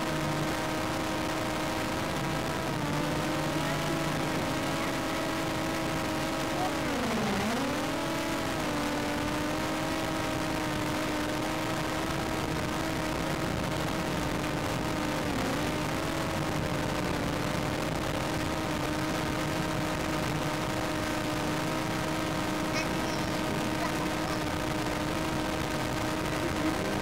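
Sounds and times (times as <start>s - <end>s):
steady motor hum: 0.0s - 27.0s.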